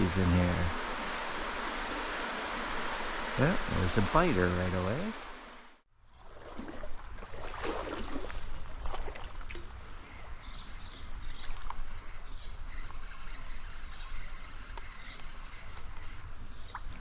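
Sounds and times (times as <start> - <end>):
stream water running and splashing: 0.0 - 17.0.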